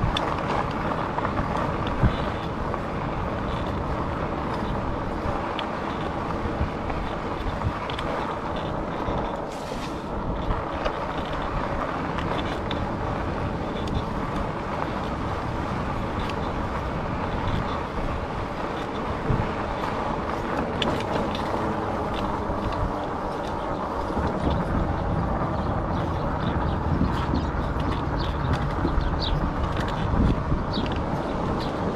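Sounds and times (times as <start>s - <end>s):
wind on microphone: 0.0s - 31.9s.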